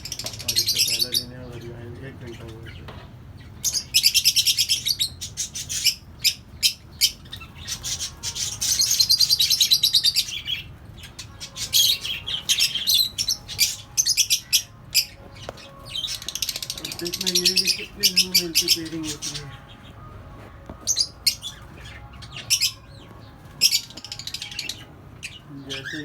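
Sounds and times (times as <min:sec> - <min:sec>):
lovebirds chattering: 0:00.0 - 0:26.0.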